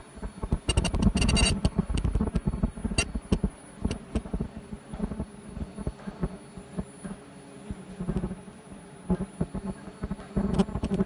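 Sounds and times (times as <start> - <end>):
machine clicks and clatter: 0.0 - 8.4, 9.1 - 11.0
low mechanical rumble: 0.0 - 11.0.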